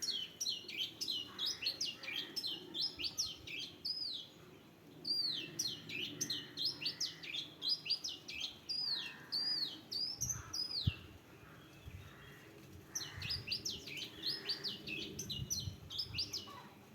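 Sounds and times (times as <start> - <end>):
bird chirping: 0.0 - 16.6.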